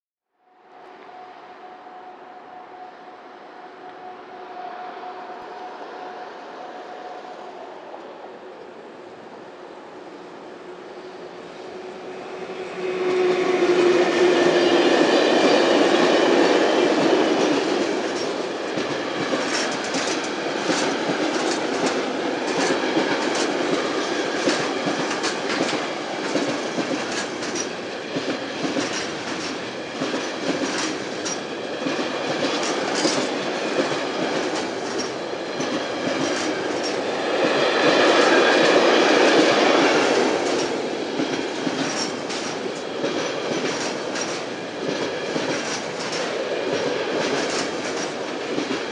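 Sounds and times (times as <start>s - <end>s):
electric locomotive hum: 0.4s - 48.9s
freight train rumbling past: 0.4s - 48.9s.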